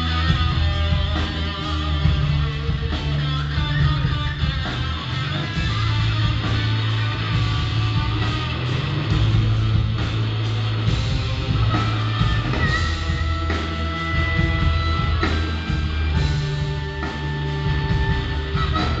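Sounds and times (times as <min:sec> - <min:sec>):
electric guitar lead notes: 0:00.0 - 0:19.0
live blues-rock band playing: 0:00.0 - 0:19.0.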